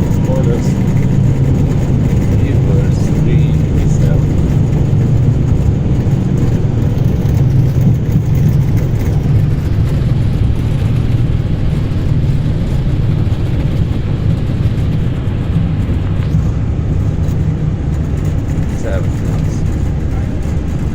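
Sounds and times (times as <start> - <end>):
jet engines rumbling: 0.0 - 20.9
wheels rolling on runway: 0.0 - 20.9.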